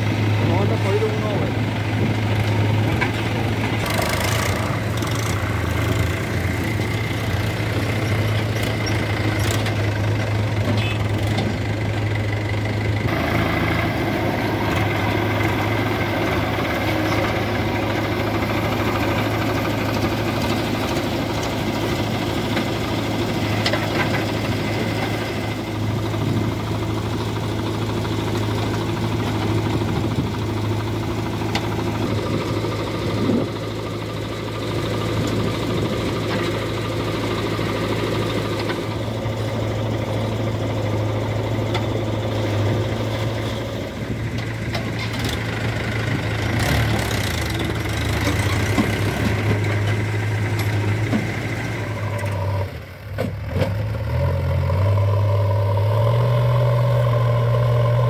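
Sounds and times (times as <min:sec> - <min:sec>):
diesel engines humming: 0:00.0 - 0:58.0.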